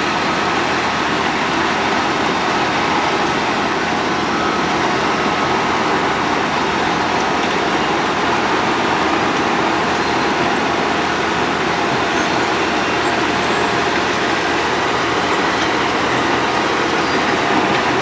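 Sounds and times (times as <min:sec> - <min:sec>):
road planer machine running: 0:00.0 - 0:18.0.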